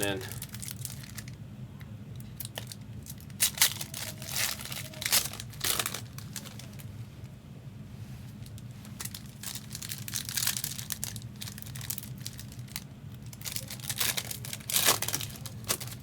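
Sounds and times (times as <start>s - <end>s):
card pack wrappers crinkling: 0.0s - 1.4s, 2.4s - 6.9s, 8.5s - 16.0s
steady low hum: 0.0s - 16.0s.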